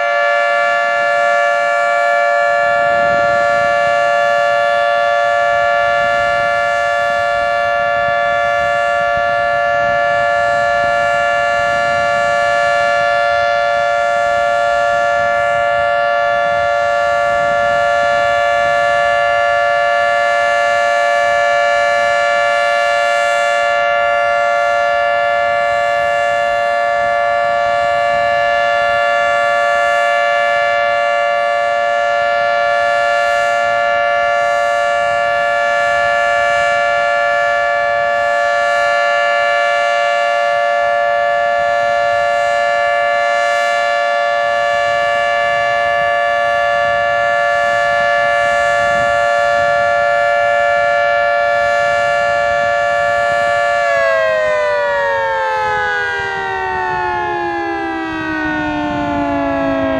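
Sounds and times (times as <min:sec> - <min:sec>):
two-tone warning siren: 0:00.0 - 0:59.9.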